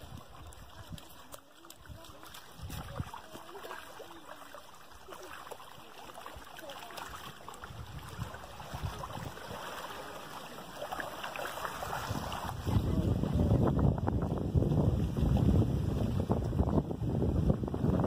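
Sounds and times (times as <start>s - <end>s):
water sloshing around feet: 0.0s - 16.7s
stream water running over sand: 0.0s - 18.0s.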